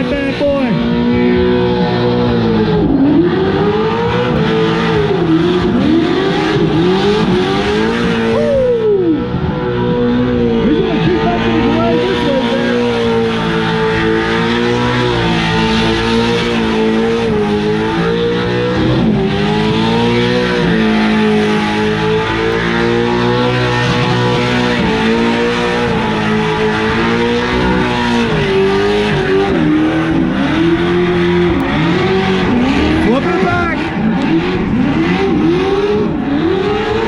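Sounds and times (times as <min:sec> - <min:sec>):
race truck engine revving: 0:00.0 - 0:37.0
tires spinning on pavement: 0:00.0 - 0:37.0.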